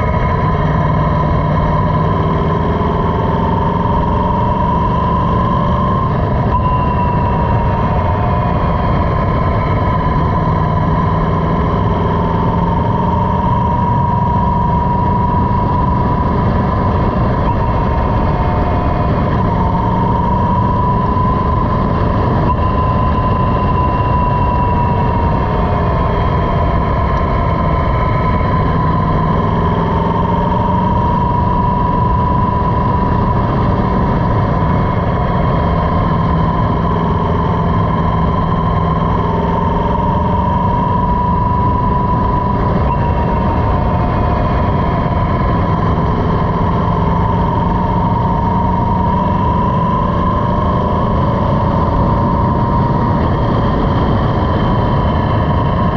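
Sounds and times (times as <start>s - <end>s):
motorcycle engine running: 0.0s - 55.9s
steady rush of noise: 0.0s - 55.9s.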